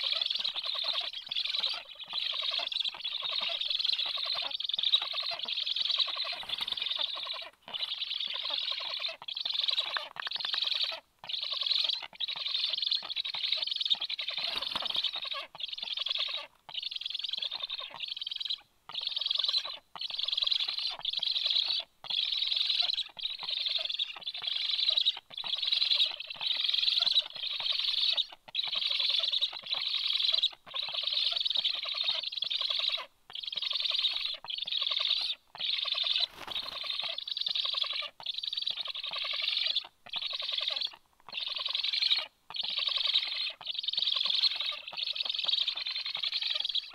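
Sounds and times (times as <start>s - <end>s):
stork nestlings begging calls: 0.0s - 46.9s.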